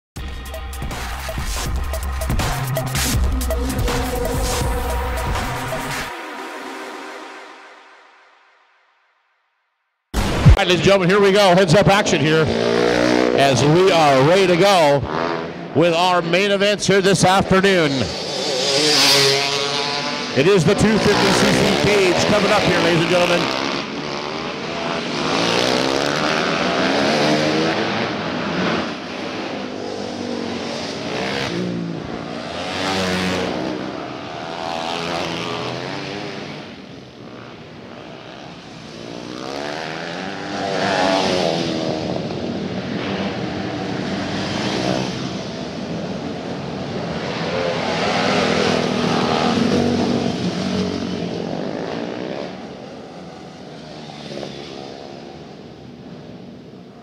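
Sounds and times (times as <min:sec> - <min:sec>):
kart engines passing: 0:10.6 - 0:56.9.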